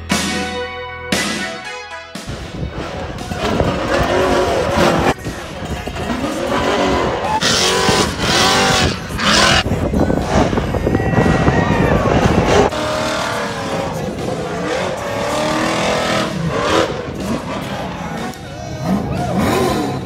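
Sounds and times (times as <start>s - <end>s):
truck engine revving hard: 2.6s - 10.7s, 12.0s - 20.0s.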